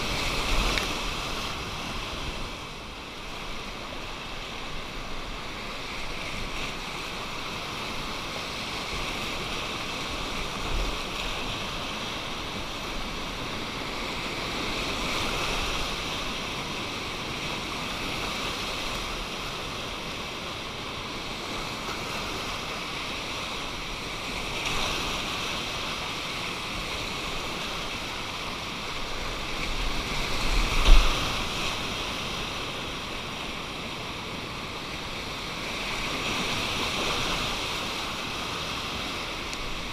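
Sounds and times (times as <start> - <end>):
river whitewater rushing: 0.0 - 39.9.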